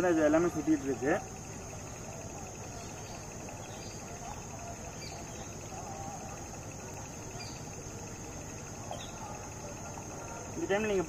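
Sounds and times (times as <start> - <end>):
insects trilling: 0.0 - 11.0
pulsing cricket chirp: 0.0 - 11.0.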